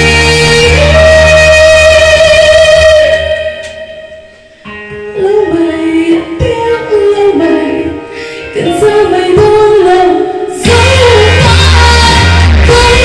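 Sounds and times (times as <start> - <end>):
woman singing into microphone: 0.0 - 4.3, 4.9 - 13.0.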